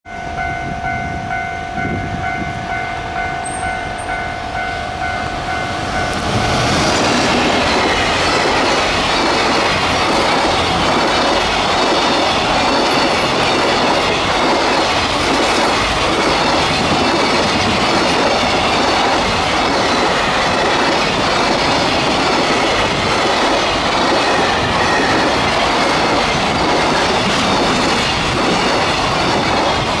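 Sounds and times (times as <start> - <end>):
steady high tone: 0.0 - 27.9
train wheels rumbling on rails: 0.1 - 30.0.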